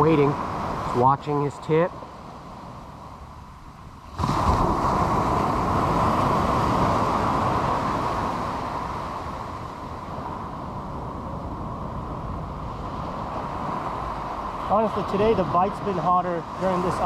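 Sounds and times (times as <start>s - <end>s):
ocean surf breaking on sand: 0.0s - 17.0s.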